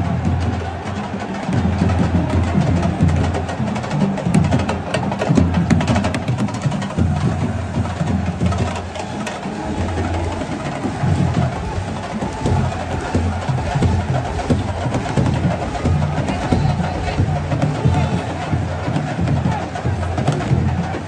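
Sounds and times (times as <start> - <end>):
drums playing fast rhythm: 0.0 - 21.0
deep pulsing beat: 1.5 - 21.0.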